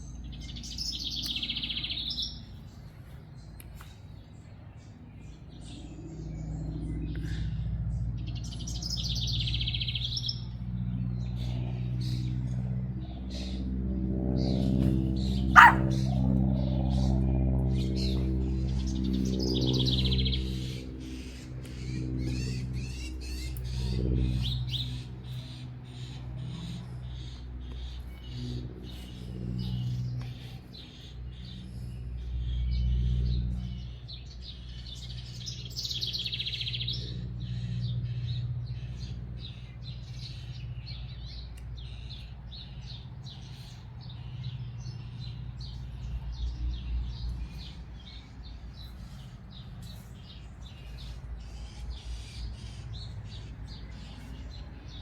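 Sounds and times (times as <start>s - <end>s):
songbirds chirping and trilling: 0.0s - 55.0s
steady low drone: 0.0s - 55.0s.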